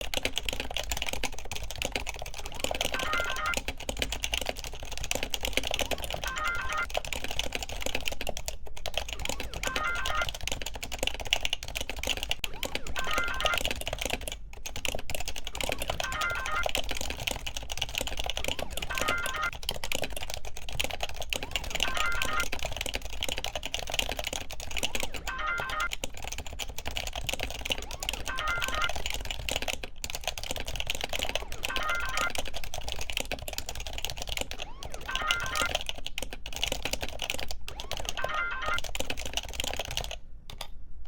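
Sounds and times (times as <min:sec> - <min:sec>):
rapid mechanical clicking: 0:00.0 - 0:40.7.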